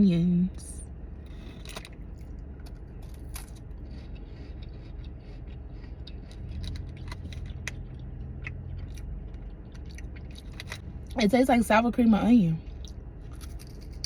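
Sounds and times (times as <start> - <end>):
steady low hum: 0.0 - 14.0
cracker crunching: 1.2 - 11.2, 12.6 - 14.0.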